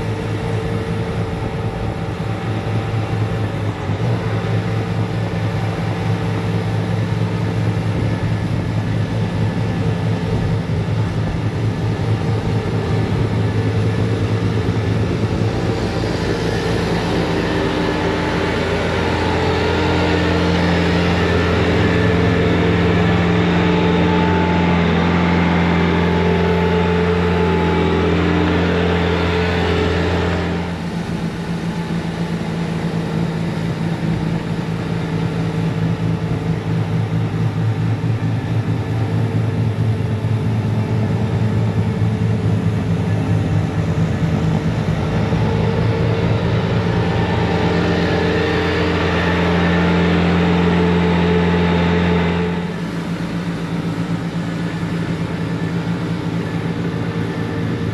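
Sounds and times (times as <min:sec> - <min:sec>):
diesel engine running under load: 0:00.0 - 0:57.9.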